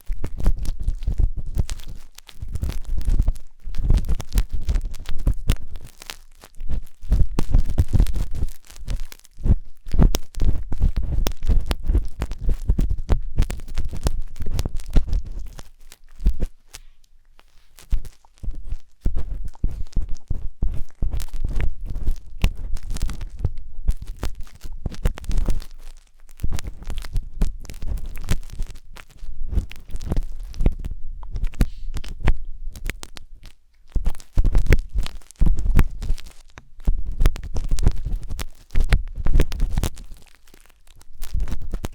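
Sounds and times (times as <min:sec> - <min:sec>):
skewer scratching in microphone ear: 0:00.0 - 0:33.2, 0:33.9 - 0:40.3.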